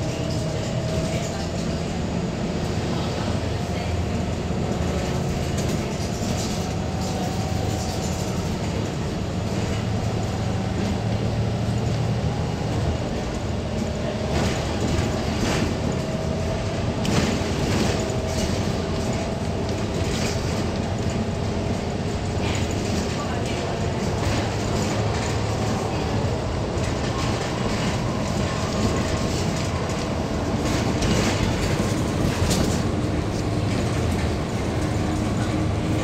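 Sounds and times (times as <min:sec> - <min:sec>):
bus body rattles and knocks: 0:00.0 - 0:36.0
bus engine drone: 0:00.0 - 0:36.0
road noise: 0:00.0 - 0:36.0.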